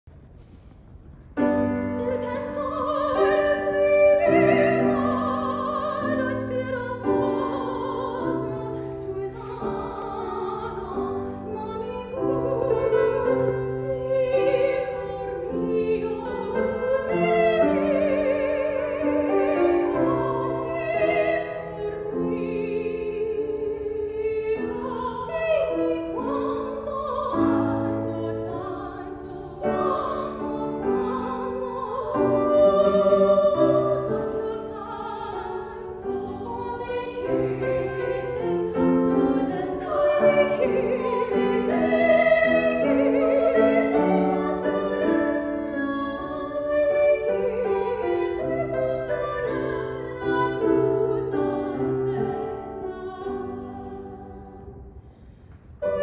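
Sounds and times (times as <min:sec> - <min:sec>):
grand piano accompaniment: 0:00.1 - 0:56.0
woman singing operatically: 0:01.8 - 0:54.6.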